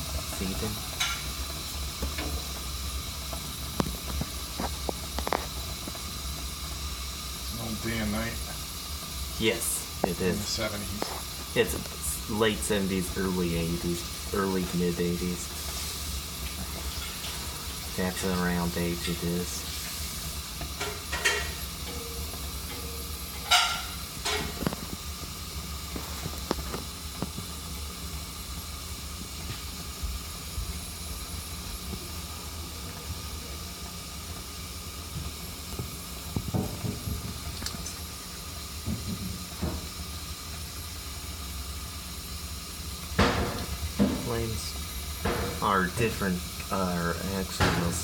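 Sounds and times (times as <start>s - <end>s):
gas burners rumbling and hissing: 0.0s - 48.0s.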